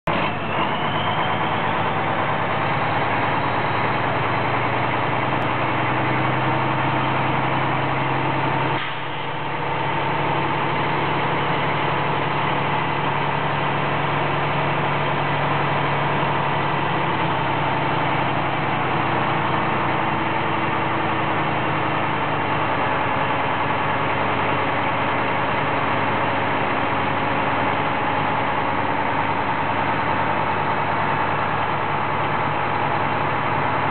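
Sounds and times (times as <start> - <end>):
diesel truck engine running: 0.0 - 33.9
high hydraulic whine: 0.1 - 33.9.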